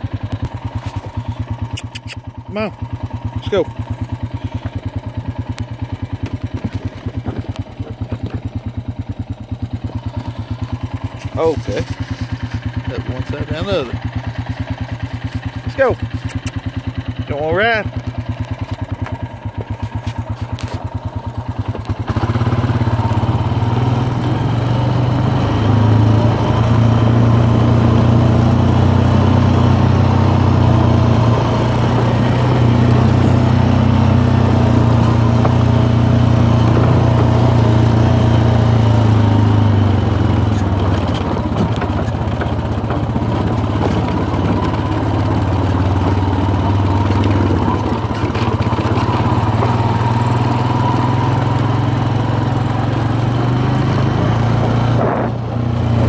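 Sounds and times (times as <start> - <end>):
tyres on gravel: 0.0 - 2.2, 2.8 - 23.3, 29.8 - 56.0
atv engine: 0.0 - 56.0.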